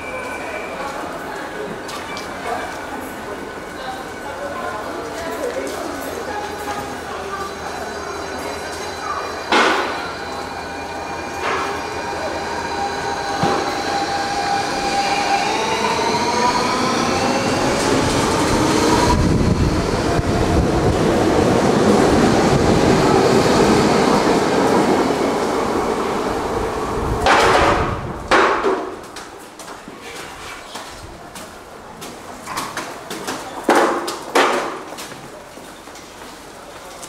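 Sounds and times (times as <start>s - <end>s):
train rumble and clatter on rails: 0.0s - 37.0s.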